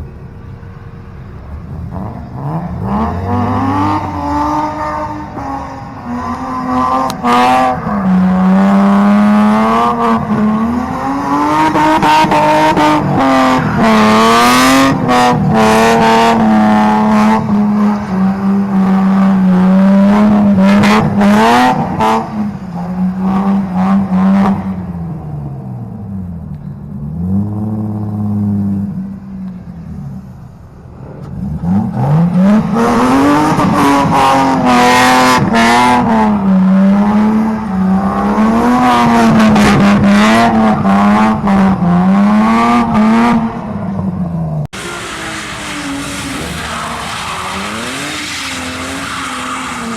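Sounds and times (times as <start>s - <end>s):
car engine revving hard: 1.6s - 24.8s, 31.4s - 43.8s, 44.7s - 49.9s.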